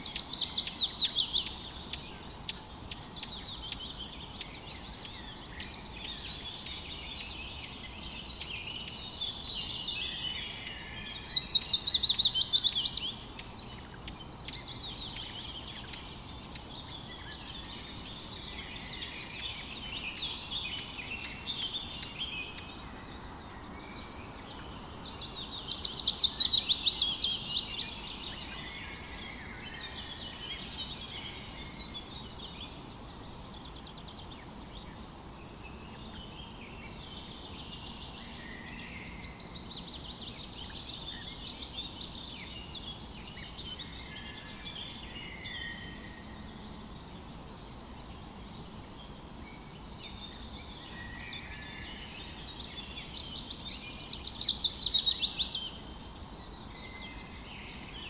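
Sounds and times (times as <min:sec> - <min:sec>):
faint background hiss: 0:00.0 - 0:58.0
songbirds chirping: 0:00.0 - 0:58.0.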